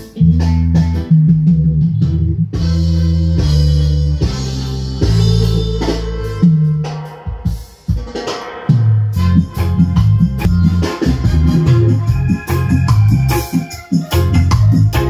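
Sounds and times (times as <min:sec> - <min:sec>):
guitar bass and drums music: 0:00.0 - 0:15.0
heavy bass notes: 0:00.0 - 0:15.0.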